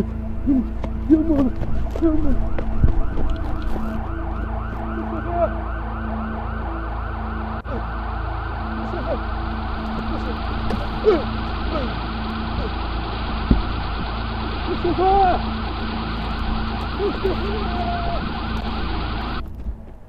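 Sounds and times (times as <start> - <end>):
fast warbling siren tone: 0.0 - 19.4
low hum: 0.0 - 20.0.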